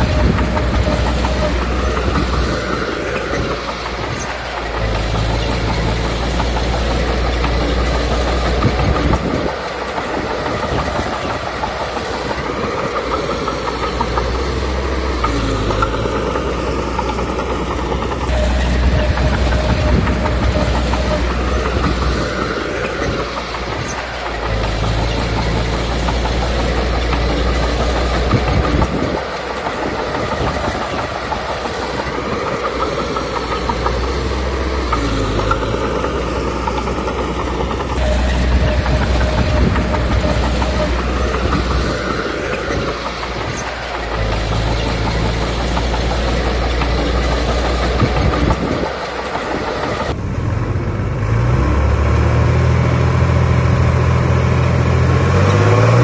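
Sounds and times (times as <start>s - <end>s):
metallic clatter of tracks: 0.0s - 50.2s
bulldozer diesel engine working: 0.0s - 56.0s.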